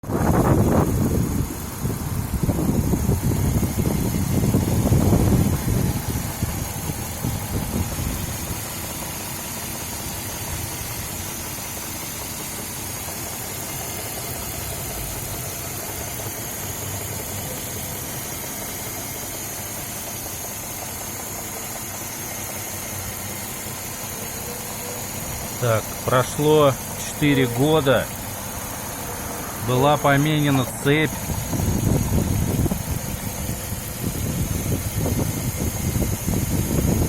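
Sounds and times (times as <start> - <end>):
car engine idling: 0.0 - 37.0
engine knocking: 0.0 - 37.0.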